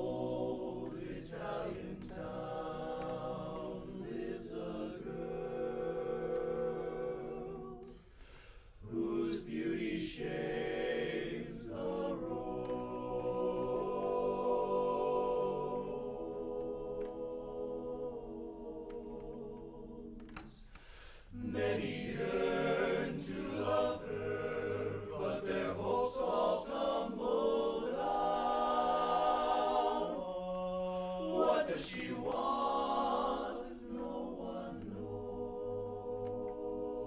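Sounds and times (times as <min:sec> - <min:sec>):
men's chorus singing a cappella: 0:00.0 - 0:08.2, 0:08.8 - 0:20.6, 0:21.3 - 0:37.0.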